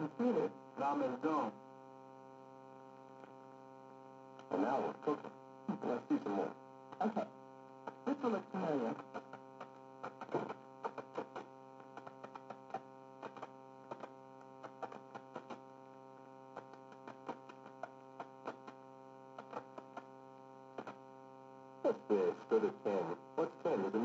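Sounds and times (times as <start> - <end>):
low-fidelity film soundtrack buzz: 0.0 - 24.0.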